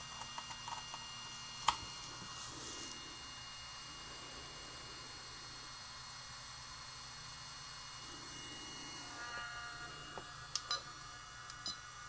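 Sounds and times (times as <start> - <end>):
faint electrical hum and hiss: 0.0 - 12.0
faint steady tone: 1.9 - 12.0.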